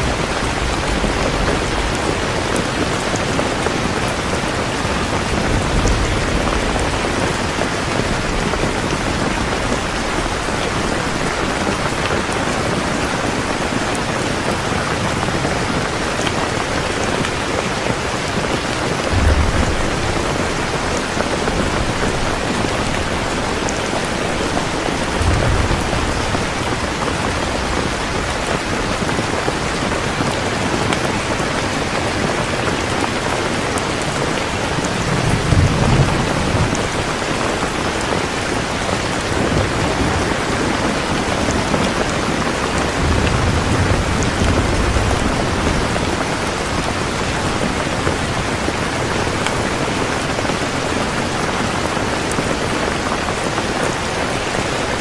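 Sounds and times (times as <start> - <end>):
thunder rumbling: 0.0 - 51.4
heavy rain pouring: 0.0 - 55.0.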